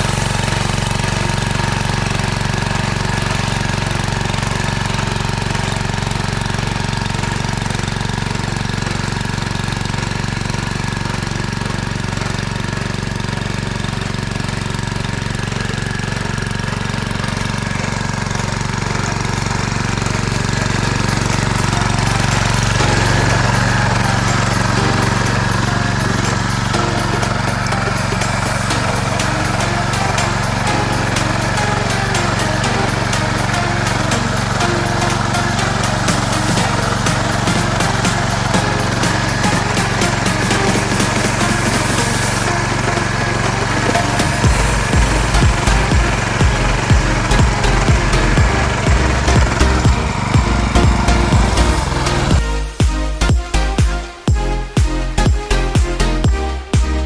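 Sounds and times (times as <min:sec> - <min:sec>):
tractor engine with mechanical knock: 0:00.0 - 0:52.4.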